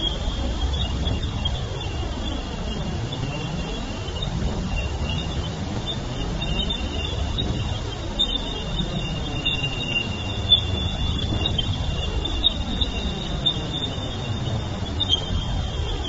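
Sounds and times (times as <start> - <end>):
dense rumbling hiss: 0.0 - 16.0.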